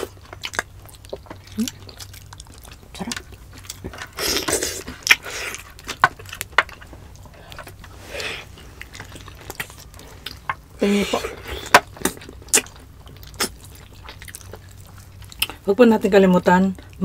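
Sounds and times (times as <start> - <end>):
people eating with mouth noises: 0.0 - 15.7.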